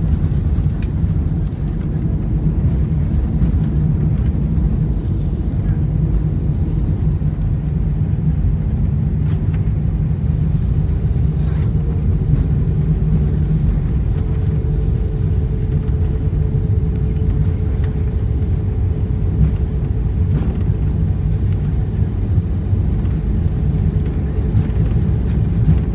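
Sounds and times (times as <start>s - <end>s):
aircraft cabin rumble: 0.0s - 25.9s.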